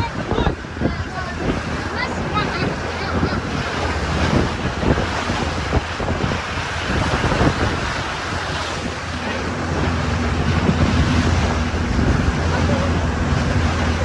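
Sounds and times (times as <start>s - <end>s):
low motor hum: 0.0s - 14.0s
sea water rushing: 0.0s - 14.0s
wind buffeting the microphone: 0.0s - 14.0s.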